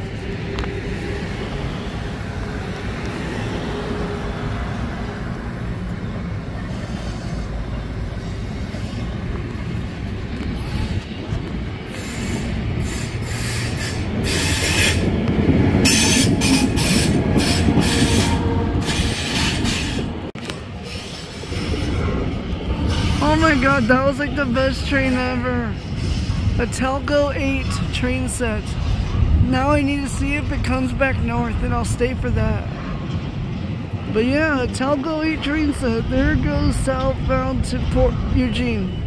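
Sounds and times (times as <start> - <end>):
diesel locomotive passing: 0.0 - 39.0
train wheels rumbling on rail: 0.0 - 39.0.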